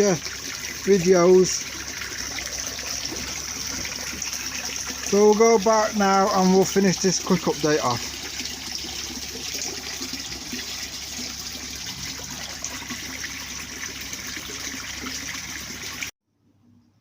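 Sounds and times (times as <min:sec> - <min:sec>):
water running into pond: 0:00.0 - 0:16.2.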